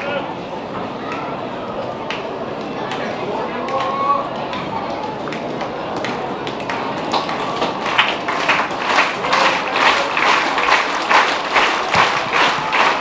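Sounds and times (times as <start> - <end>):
spectators clapping: 1.9 - 13.0.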